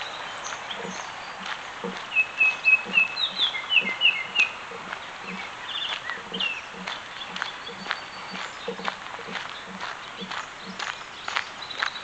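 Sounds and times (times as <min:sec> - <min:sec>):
footsteps on gravel: 0:00.0 - 0:12.0
songbird singing: 0:00.0 - 0:12.0.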